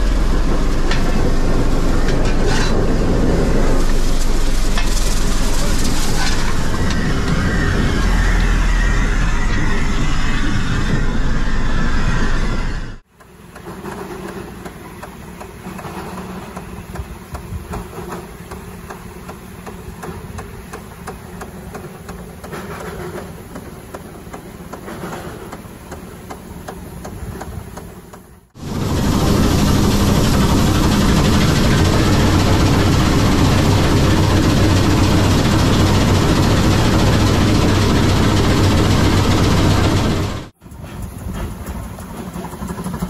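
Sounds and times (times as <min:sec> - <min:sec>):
rush of steam and machinery: 0:00.0 - 0:43.0
snow plow mechanical clatter: 0:00.0 - 0:43.0.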